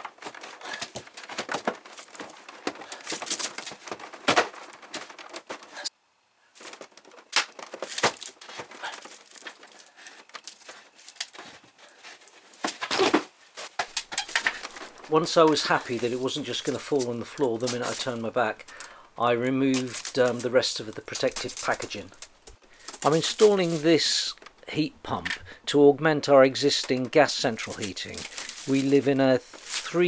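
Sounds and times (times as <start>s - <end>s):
plastic film crinkling: 0.0s - 5.9s, 6.6s - 24.6s, 26.7s - 30.0s.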